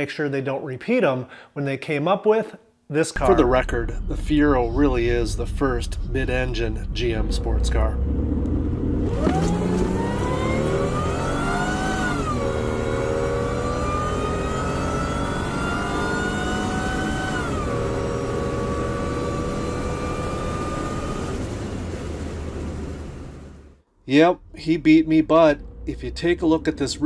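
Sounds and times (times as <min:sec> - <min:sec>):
car engine accelerating hard: 0:03.2 - 0:27.0.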